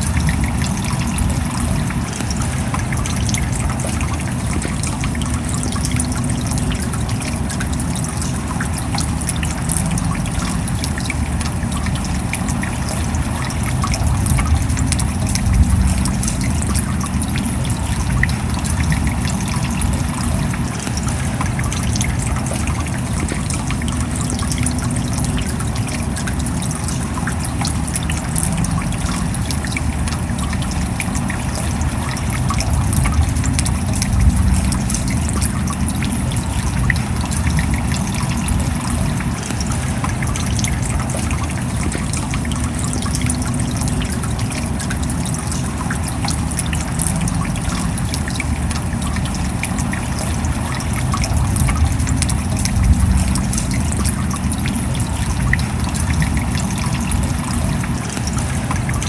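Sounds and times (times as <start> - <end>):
rain pattering: 0.0 - 59.0
trickling water: 0.0 - 59.0.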